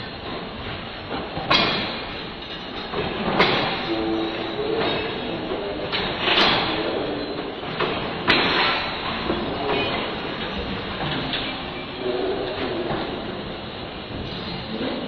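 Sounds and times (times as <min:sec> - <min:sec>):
train wheels rattling on rails: 0:00.0 - 0:15.0.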